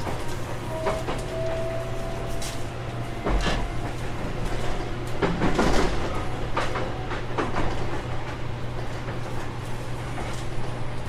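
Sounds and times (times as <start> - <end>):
train interior rumble: 0.0 - 11.0
wheels clicking over rail joints: 0.0 - 11.0.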